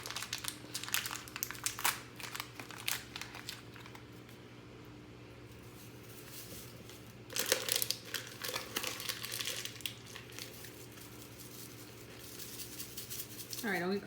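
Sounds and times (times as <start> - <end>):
plastic pouch crinkling: 0.0 - 4.2, 6.1 - 13.6.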